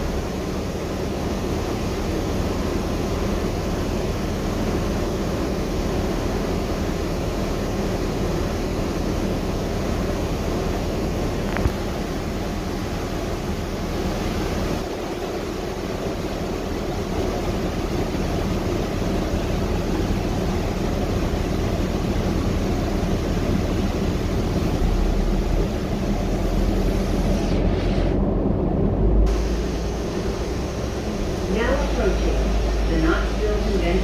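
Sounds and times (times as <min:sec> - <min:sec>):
bus cabin drone: 0:00.0 - 0:34.0.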